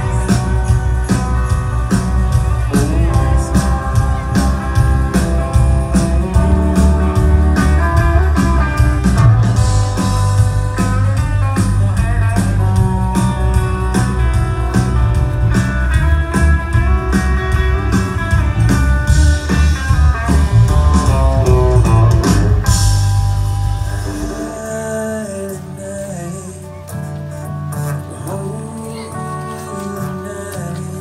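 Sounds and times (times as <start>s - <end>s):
steady drum beat: 0.0s - 25.0s
guitar: 0.0s - 31.0s
rock band playing: 0.0s - 31.0s.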